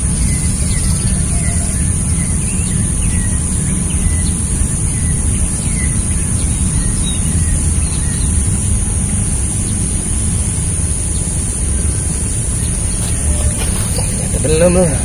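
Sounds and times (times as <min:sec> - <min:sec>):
constant high hiss: 0:00.0 - 0:15.0
small birds chirping: 0:00.0 - 0:15.0
wind buffeting microphone: 0:00.0 - 0:15.0.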